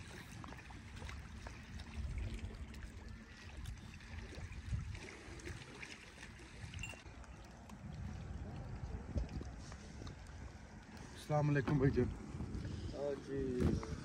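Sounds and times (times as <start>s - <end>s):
wind buffeting microphone: 0.0s - 5.6s, 6.4s - 10.8s, 11.5s - 14.0s.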